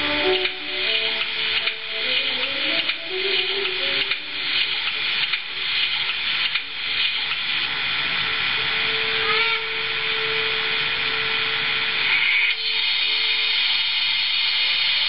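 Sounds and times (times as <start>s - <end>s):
steady steam hiss from speaker: 0.0s - 15.0s.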